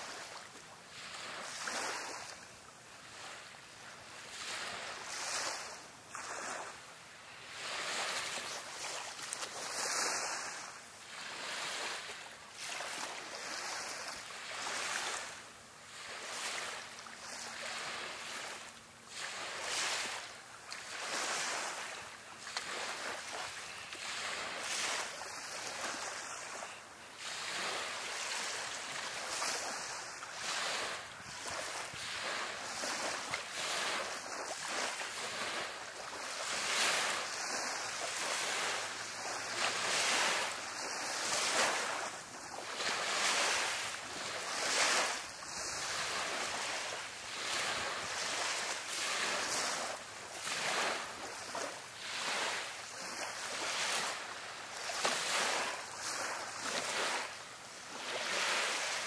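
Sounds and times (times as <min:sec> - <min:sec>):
surf washing onto beach: 0:07.5 - 0:59.0.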